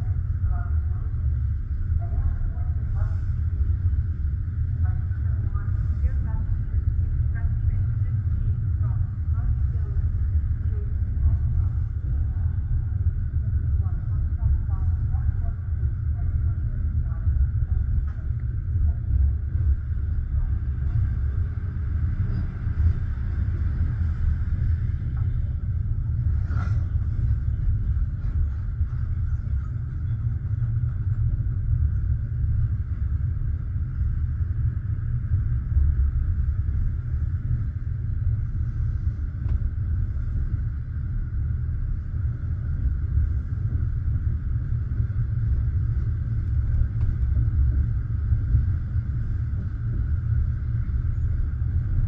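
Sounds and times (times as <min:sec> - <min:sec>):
train carriage rumbling: 0:00.0 - 0:52.0.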